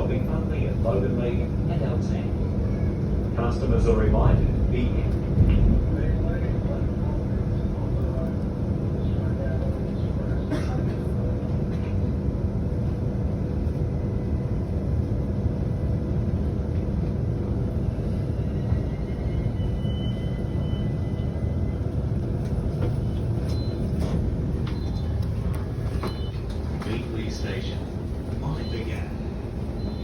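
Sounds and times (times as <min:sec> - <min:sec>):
train rumbling inside carriage: 0:00.0 - 0:30.0.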